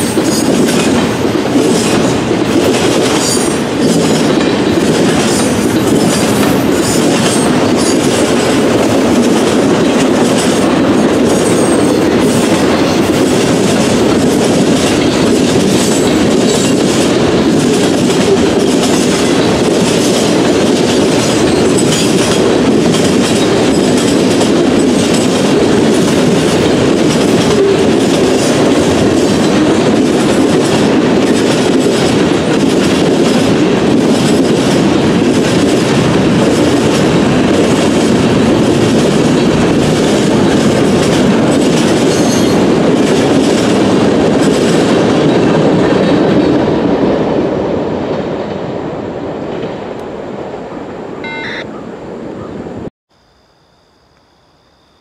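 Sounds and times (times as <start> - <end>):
steel wheels rumbling on rail: 0.0 - 51.2.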